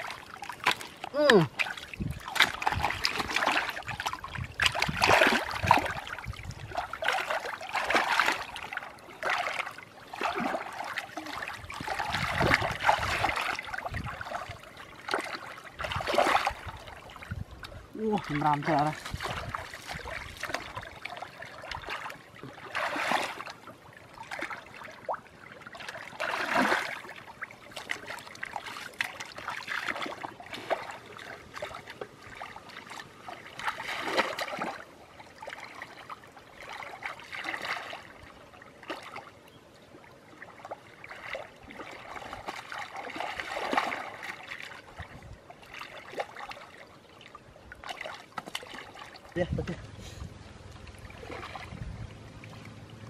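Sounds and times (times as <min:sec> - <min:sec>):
low water trickle: 0:00.0 - 0:53.0
muddy water splashing: 0:00.0 - 0:53.0.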